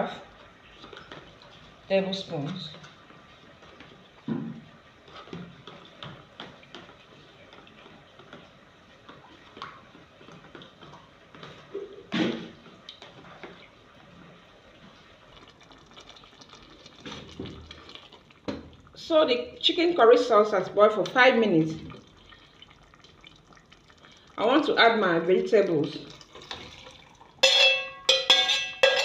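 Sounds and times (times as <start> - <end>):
wet stirring and dripping: 0.3 - 19.0, 21.1 - 24.7, 25.5 - 29.0.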